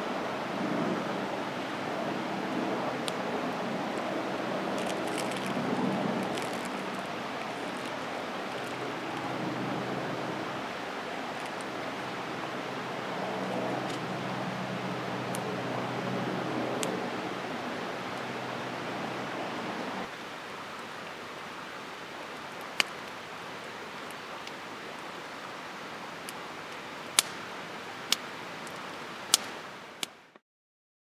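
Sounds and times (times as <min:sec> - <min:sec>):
campfire crackling and hissing: 0:00.0 - 0:30.4.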